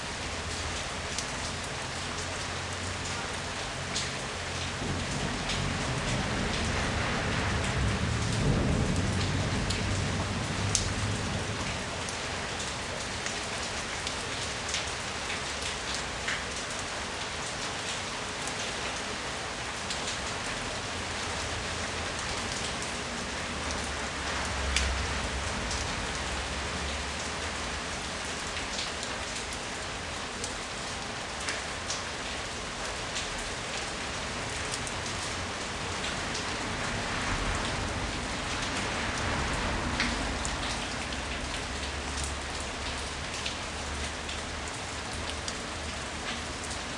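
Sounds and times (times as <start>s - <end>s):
raindrops ticking on surfaces: 0.0s - 46.9s
steady rain falling: 0.0s - 46.9s.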